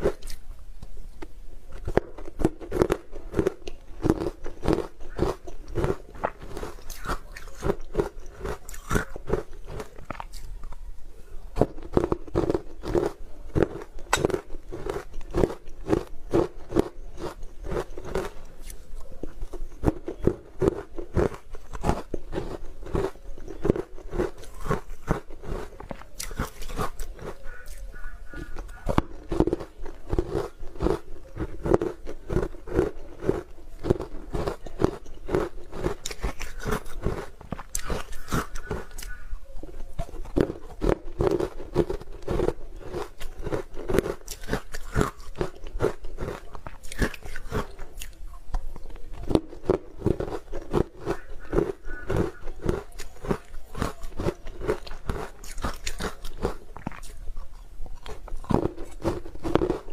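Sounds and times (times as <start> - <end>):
crunching frozen ice: 1.8 - 10.9, 11.6 - 59.9.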